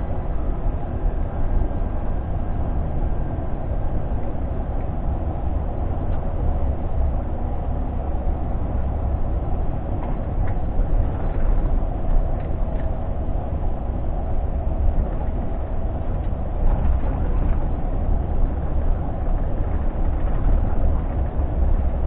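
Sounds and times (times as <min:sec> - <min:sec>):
road noise: 0:00.0 - 0:22.0
truck diesel engine rumble: 0:00.0 - 0:22.0.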